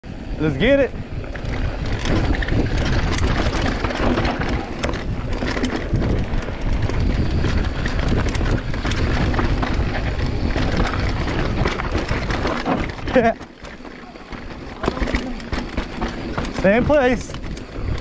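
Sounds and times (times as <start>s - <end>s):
wind rumble on microphone: 0.0s - 18.0s
bike clicks and rattles: 0.1s - 18.0s
tyres rolling over dirt: 0.1s - 18.0s.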